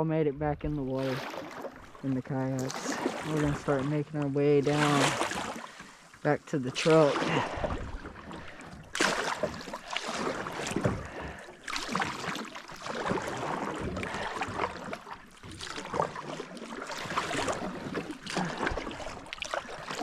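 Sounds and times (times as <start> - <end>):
kayak paddle splashing water: 0.7 - 20.0.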